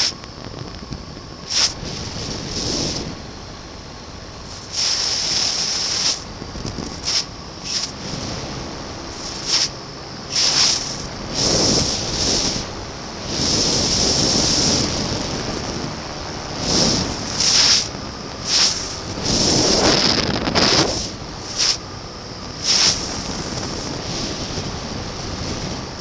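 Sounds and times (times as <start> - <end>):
aircraft engine drone: 0.0 - 26.0
wind buffeting microphone: 0.0 - 26.0.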